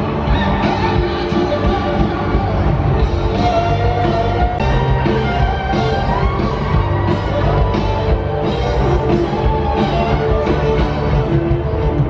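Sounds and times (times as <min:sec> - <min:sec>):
country-rock band over stadium pa: 0:00.0 - 0:12.0.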